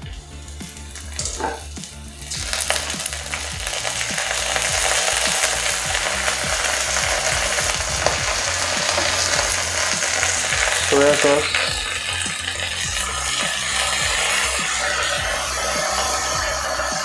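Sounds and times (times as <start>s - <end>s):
food sizzling in a hot pan: 0.0s - 17.0s.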